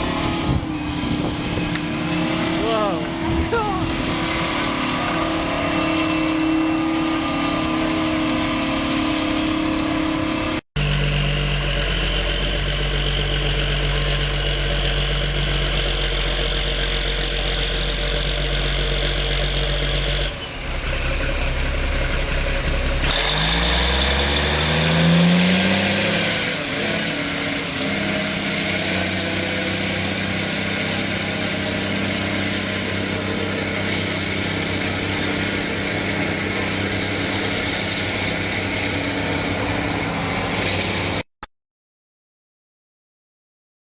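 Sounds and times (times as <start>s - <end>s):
engine revving: 0.0s - 41.3s
tractor engines running: 0.0s - 41.3s.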